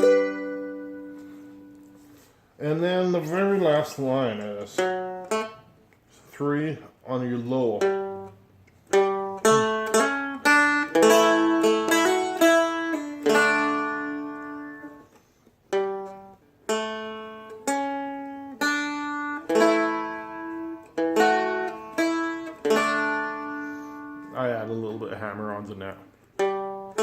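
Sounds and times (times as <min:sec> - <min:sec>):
plucked dulcimer notes and chords: 0:00.0 - 0:02.2, 0:03.1 - 0:05.7, 0:07.4 - 0:15.1, 0:15.7 - 0:25.3, 0:26.3 - 0:27.0.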